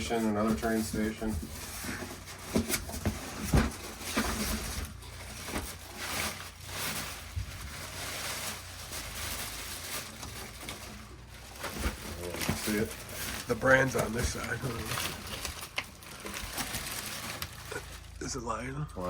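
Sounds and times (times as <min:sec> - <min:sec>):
rustling and small bumps: 0:00.0 - 0:18.2.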